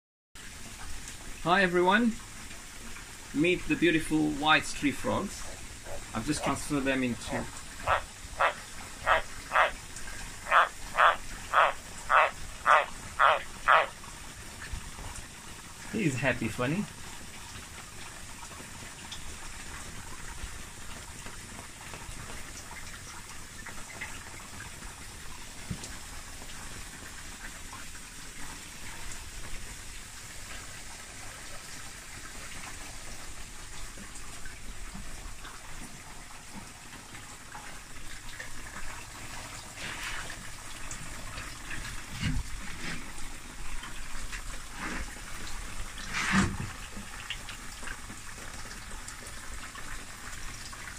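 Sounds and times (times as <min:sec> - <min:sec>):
water trickling into a pond: 0:00.4 - 0:50.9.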